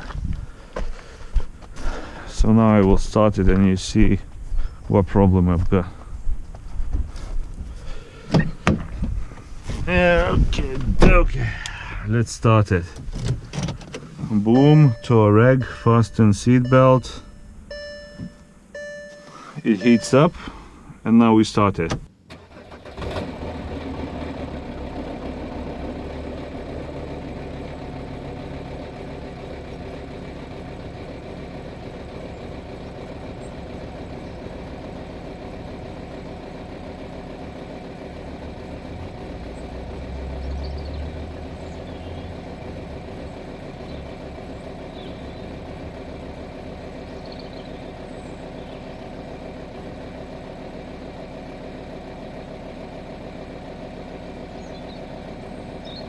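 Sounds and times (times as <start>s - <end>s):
diesel engine starting and idling: 0.0s - 56.0s.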